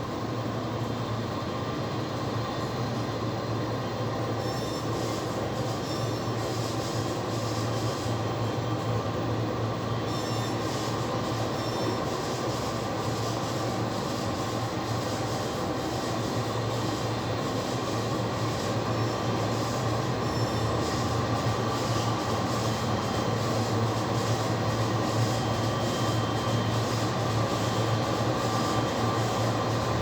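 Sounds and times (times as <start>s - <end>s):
jet airliner droning: 0.0s - 30.0s.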